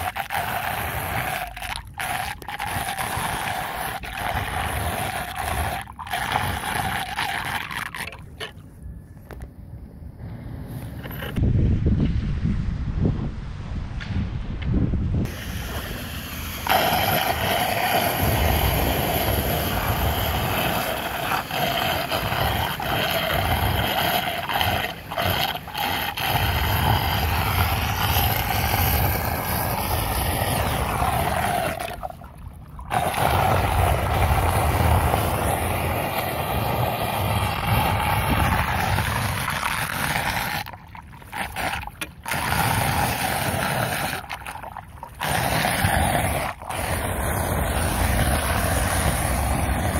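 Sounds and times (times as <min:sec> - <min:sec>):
floodwater gurgling down drain: 0:00.0 - 0:08.6, 0:15.2 - 0:49.9.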